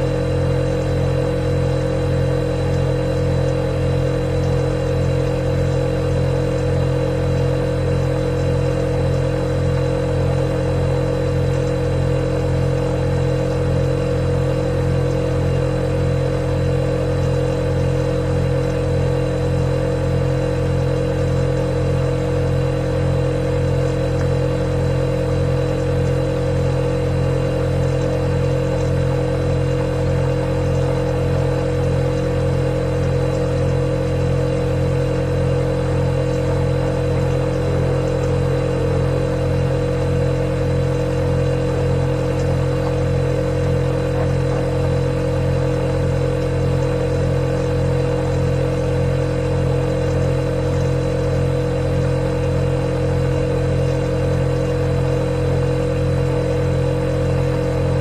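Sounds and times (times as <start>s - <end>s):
refrigerator humming: 0.0s - 58.0s.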